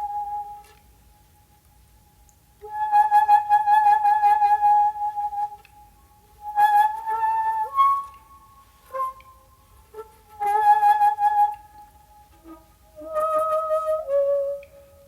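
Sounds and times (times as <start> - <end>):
bamboo flute playing slow notes: 0.0 - 15.0.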